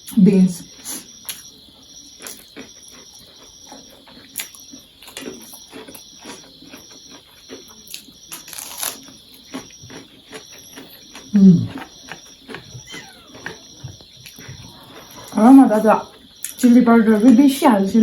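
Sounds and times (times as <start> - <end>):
noodles being chewed: 0.8 - 16.7.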